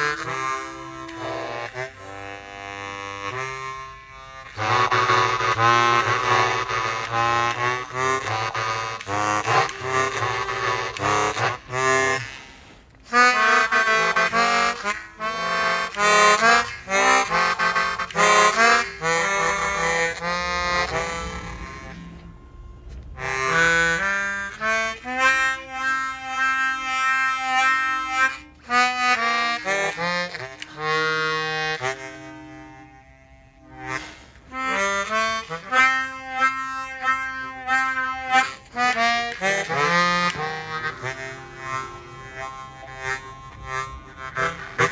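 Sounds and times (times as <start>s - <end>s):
harmonica with wavering effects: 0.0s - 44.9s.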